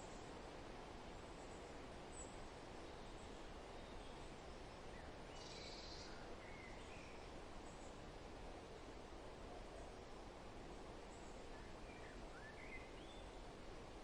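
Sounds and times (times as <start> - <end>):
wind rustling leaves: 0.0 - 14.0.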